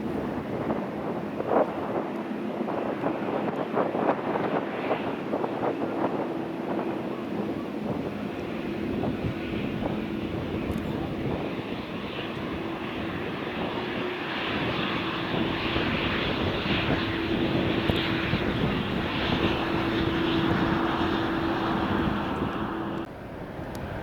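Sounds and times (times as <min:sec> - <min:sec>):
jet airliner engines passing: 0:00.0 - 0:24.0.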